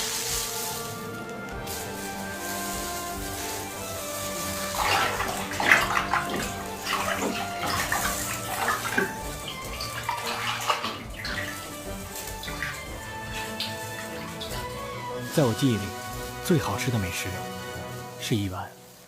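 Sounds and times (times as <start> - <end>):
background music: 0.0 - 19.0
water splashing and sloshing: 0.0 - 19.0.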